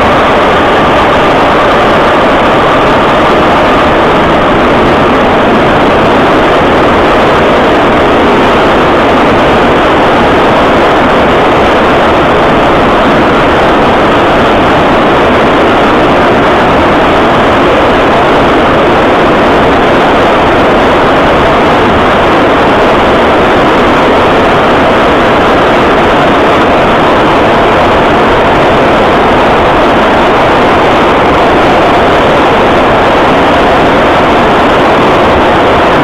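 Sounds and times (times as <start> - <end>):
faint steady whine: 0.0 - 36.0.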